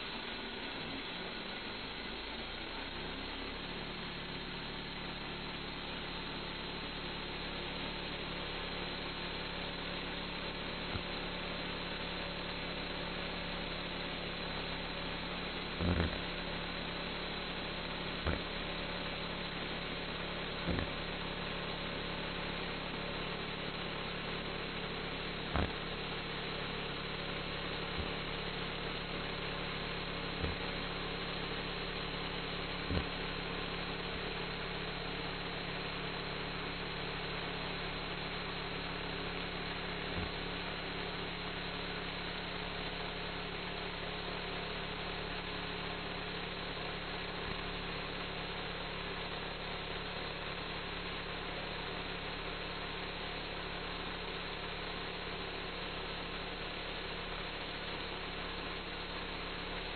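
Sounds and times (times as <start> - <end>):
band sawmill cutting log: 0.0 - 59.9.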